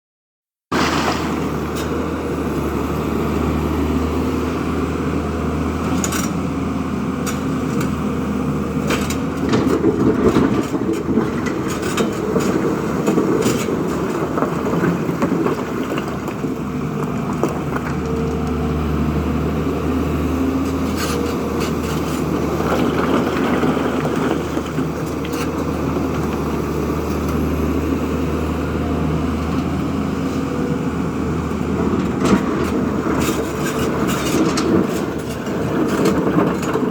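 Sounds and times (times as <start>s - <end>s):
diesel engine running: 0.7s - 36.9s.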